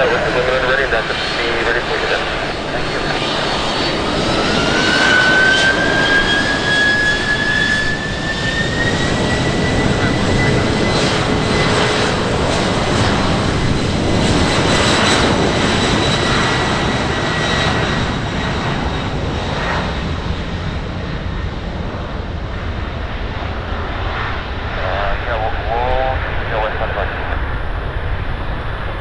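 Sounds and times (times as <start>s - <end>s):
aircraft engines whining: 0.0s - 29.0s.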